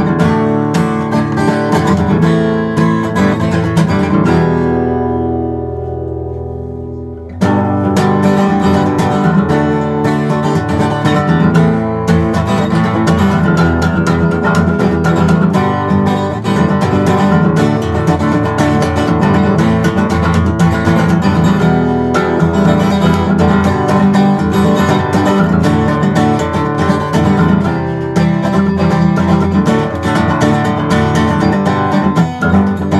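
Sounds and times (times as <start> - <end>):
acoustic guitar playing: 0.0 - 32.9.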